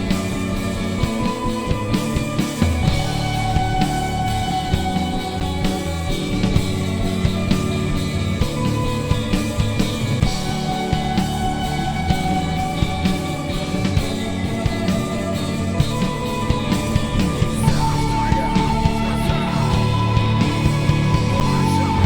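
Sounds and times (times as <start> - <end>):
drum kit beating: 0.0 - 22.0
electric guitars holding notes: 0.0 - 22.0.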